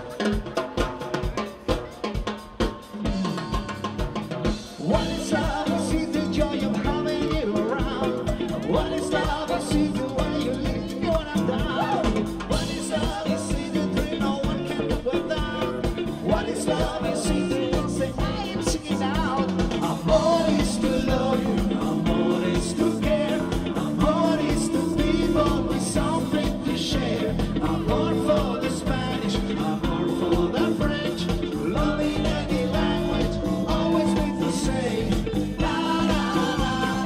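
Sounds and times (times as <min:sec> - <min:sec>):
live band with singer: 0:00.0 - 0:37.0.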